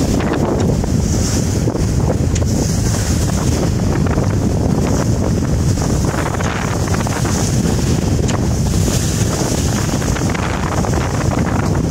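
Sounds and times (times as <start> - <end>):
strong wind buffeting microphone: 0.0 - 11.9
water hissing along hull: 0.0 - 11.9.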